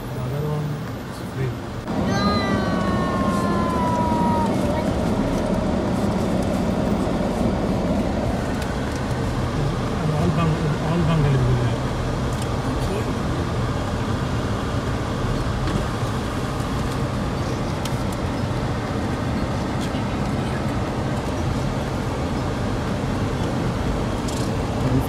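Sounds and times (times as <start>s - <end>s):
car engine hum: 0.0s - 25.0s
tyres on gravel track: 0.0s - 25.0s.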